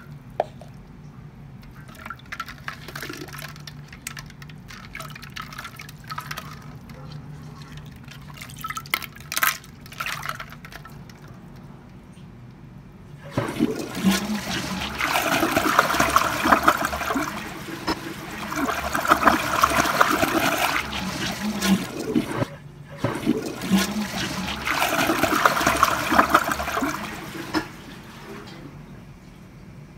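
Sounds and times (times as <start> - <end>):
trickle of bowl refilling: 1.6 - 11.7, 13.4 - 28.6
toilet flushing: 1.7 - 11.3, 13.2 - 29.4.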